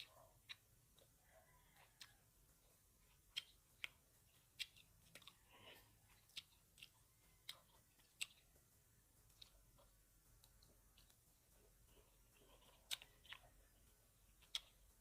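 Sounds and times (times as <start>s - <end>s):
grapes being chewed: 0.0s - 15.0s.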